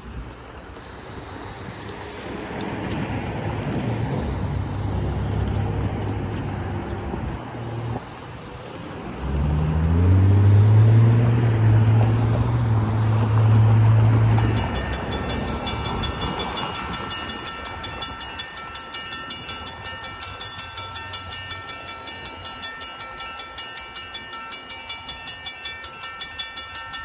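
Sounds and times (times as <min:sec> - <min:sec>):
cars driving past: 0:00.5 - 0:25.9.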